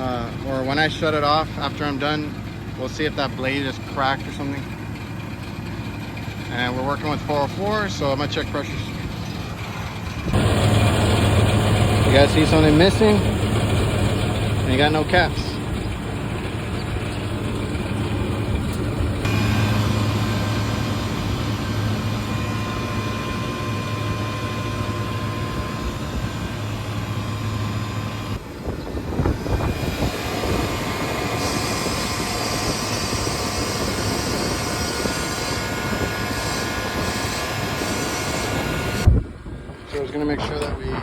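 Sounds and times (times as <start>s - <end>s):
condensing unit hum: 0.0s - 41.0s.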